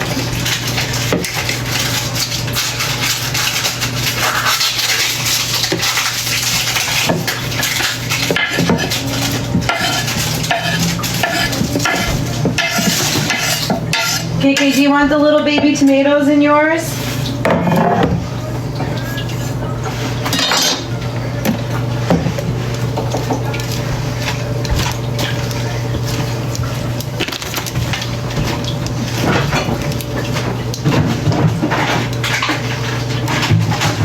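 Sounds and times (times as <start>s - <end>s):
utensils clinking against bowl: 0.0s - 16.1s, 18.8s - 34.0s.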